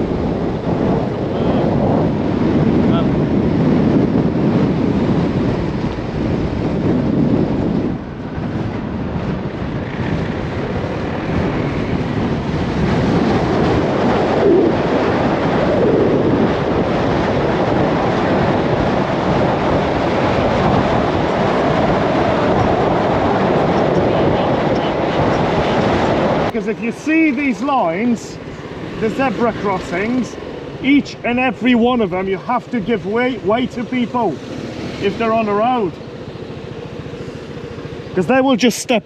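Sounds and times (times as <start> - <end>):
motorbike engine and road noise: 0.0 - 39.0
wind rushing over microphone: 0.0 - 39.0.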